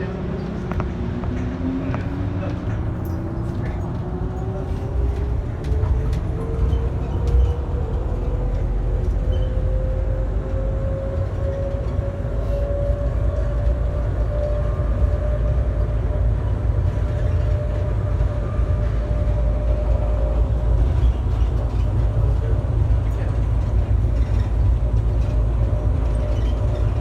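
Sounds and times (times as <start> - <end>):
tram rumbling on guideway: 0.0 - 27.0.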